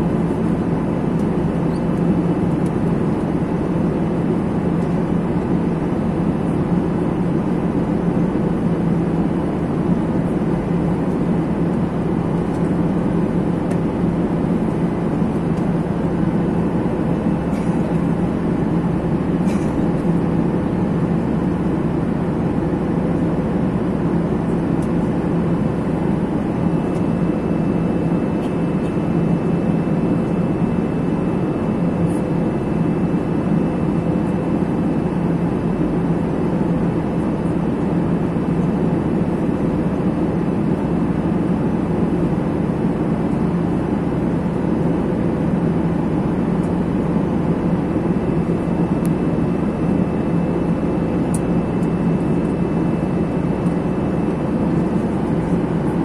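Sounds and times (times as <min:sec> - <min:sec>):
airliner cabin engine and airflow rush: 0:00.0 - 0:56.0
constant low hum: 0:00.0 - 0:56.0.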